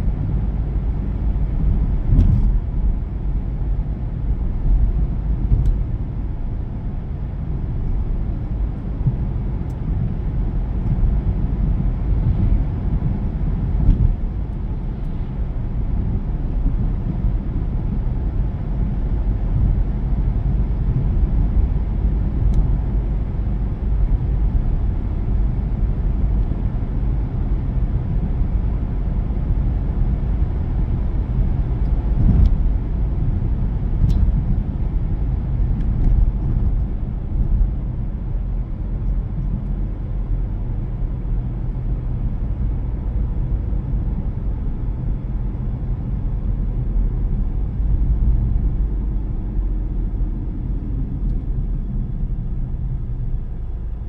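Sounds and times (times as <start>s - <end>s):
road and engine rumble: 0.0s - 54.0s.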